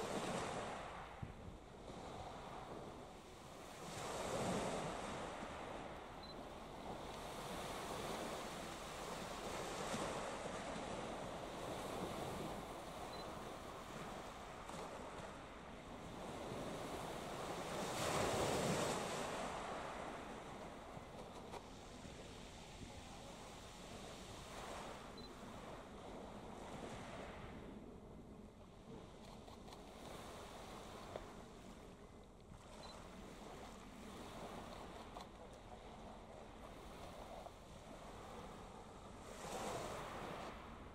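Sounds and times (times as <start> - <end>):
small waves washing on shore: 0.0 - 40.9.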